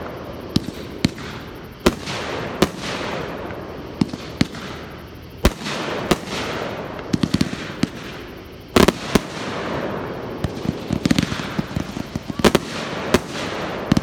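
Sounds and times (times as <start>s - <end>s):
fireworks bangs: 0.0s - 14.0s
small firework pops: 0.5s - 9.3s, 10.4s - 14.0s.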